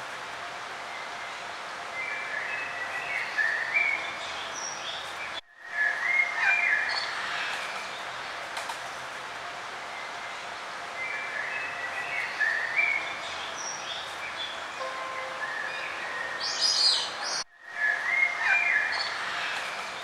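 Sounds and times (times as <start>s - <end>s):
steady background hiss: 0.0s - 20.0s
songbirds chirping and trilling: 0.7s - 8.5s, 9.7s - 20.0s.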